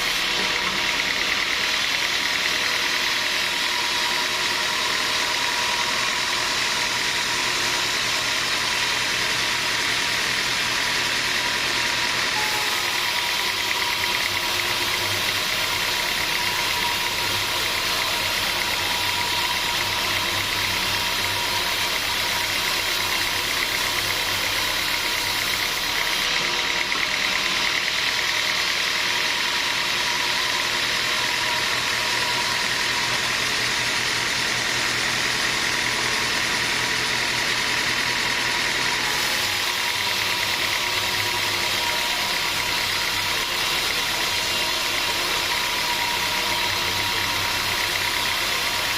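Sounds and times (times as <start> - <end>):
machine whine: 0.0 - 48.9
sawmill machinery drone: 0.0 - 48.9.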